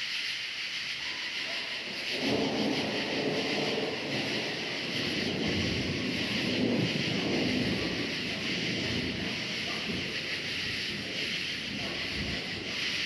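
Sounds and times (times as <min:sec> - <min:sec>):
crickets chirping: 0:00.0 - 0:13.0
thunder rumbling: 0:01.8 - 0:13.0.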